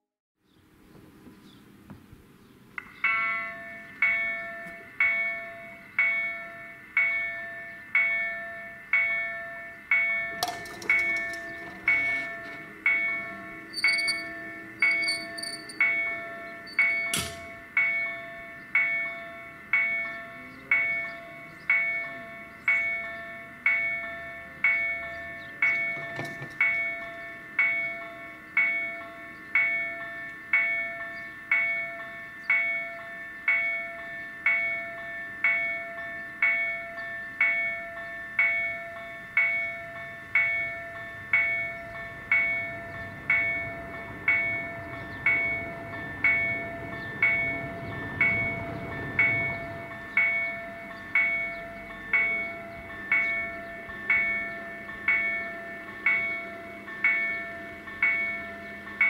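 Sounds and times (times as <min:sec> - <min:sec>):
level crossing warning bell: 0:02.8 - 0:59.0.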